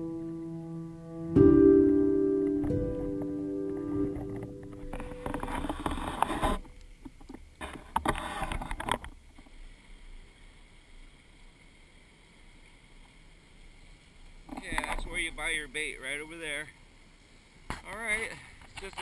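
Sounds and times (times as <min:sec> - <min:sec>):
faint wind hiss: 0:00.0 - 0:19.0.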